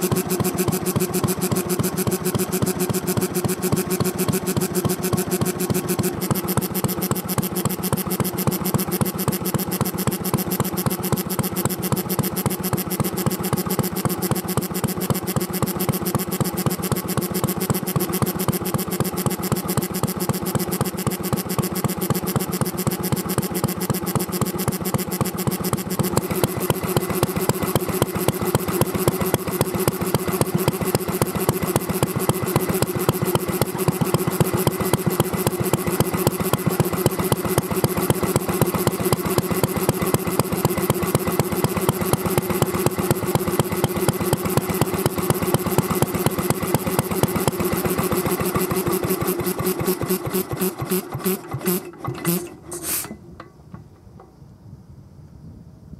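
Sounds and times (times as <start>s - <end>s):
stationary engine running: 0.0s - 52.8s.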